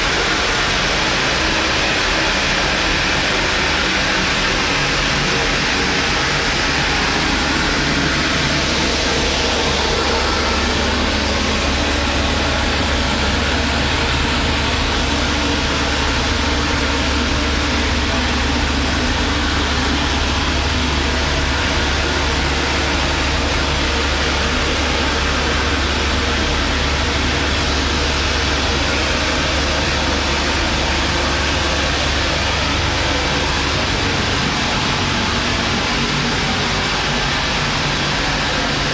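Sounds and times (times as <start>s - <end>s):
deep hum: 0.0s - 38.9s
loud machinery noise: 0.0s - 38.9s.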